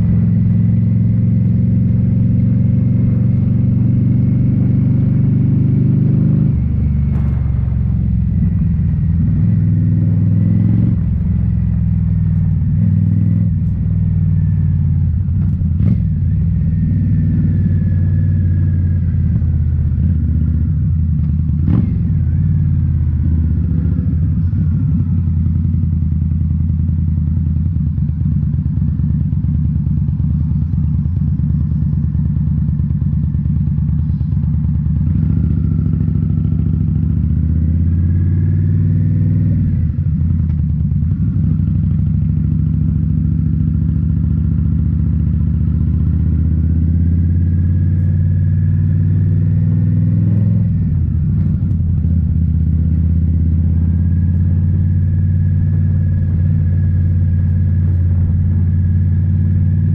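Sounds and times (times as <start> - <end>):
motorcycle engine exhaust note: 0.0 - 59.9.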